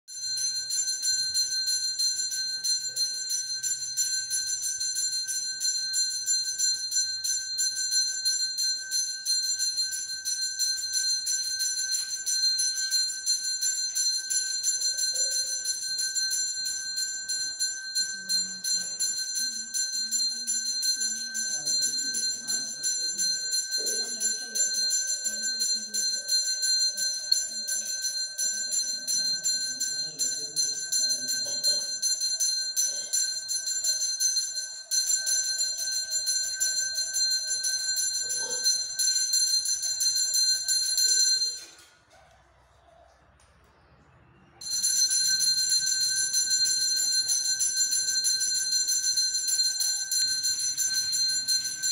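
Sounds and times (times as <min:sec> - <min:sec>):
bell ringing rapidly: 0:00.1 - 0:41.8, 0:44.6 - 0:51.9.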